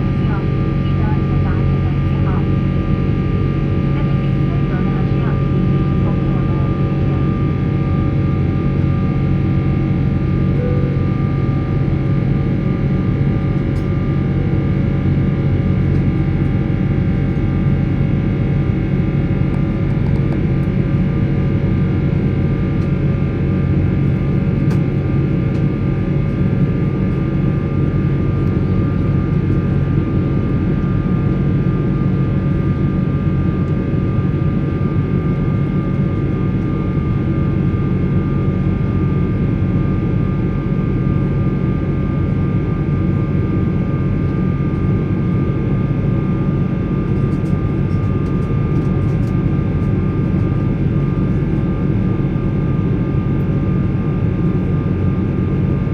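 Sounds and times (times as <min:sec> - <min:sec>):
airplane cabin engine drone: 0:00.0 - 0:55.9.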